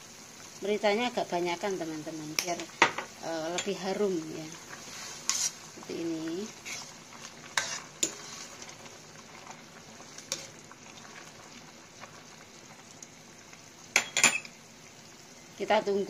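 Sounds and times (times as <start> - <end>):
broth simmering in a wok: 0.0 - 16.0.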